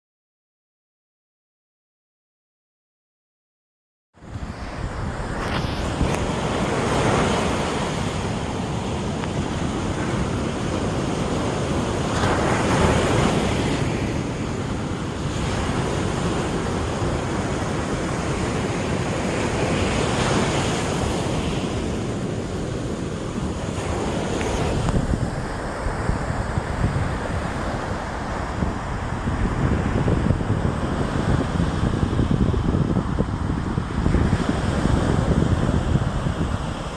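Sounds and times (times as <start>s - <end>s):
surf breaking on a beach: 4.2s - 36.9s.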